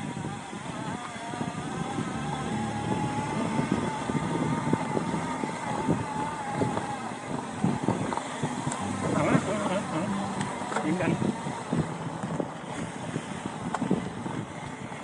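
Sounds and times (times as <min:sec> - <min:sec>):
mountain bike buzzing tone: 0:00.0 - 0:15.0
wind on microphone: 0:00.0 - 0:15.0.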